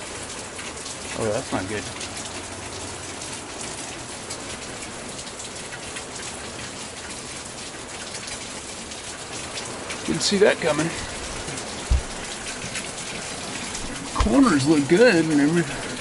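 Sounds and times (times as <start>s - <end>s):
rain on a camper roof: 0.0s - 16.0s.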